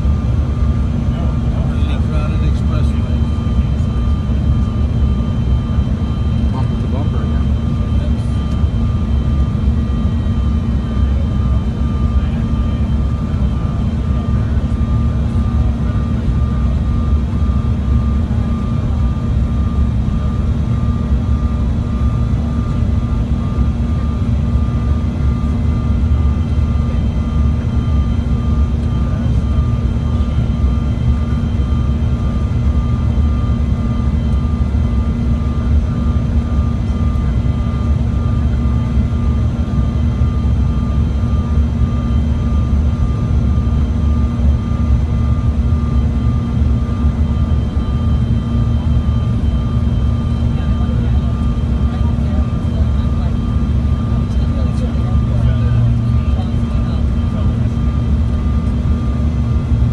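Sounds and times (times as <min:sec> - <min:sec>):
jet cabin engine drone: 0:00.0 - 0:59.9.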